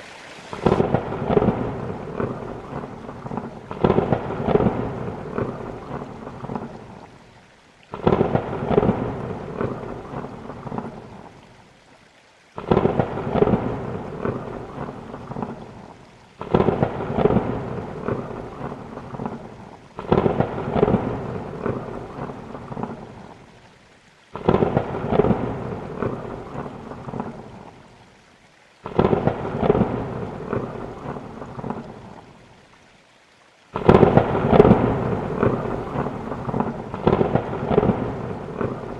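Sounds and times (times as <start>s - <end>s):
rain: 0.0s - 38.9s
thunderclaps: 0.5s - 6.8s, 7.9s - 11.1s, 12.6s - 15.8s, 16.4s - 23.3s, 24.4s - 27.6s, 28.8s - 32.2s, 33.8s - 38.9s.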